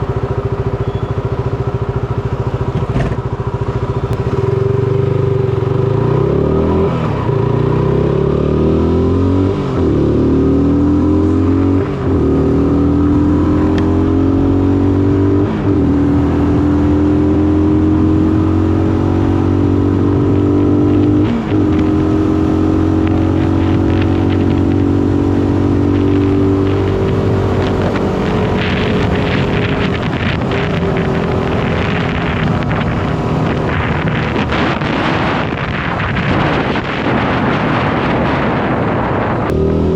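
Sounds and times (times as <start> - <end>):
motorcycle engine accelerating: 0.0 - 39.9
rushing wind noise: 0.0 - 39.9.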